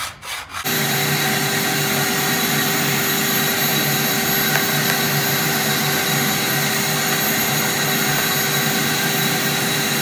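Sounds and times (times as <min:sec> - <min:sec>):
shop vacuum running: 0:00.6 - 0:10.0.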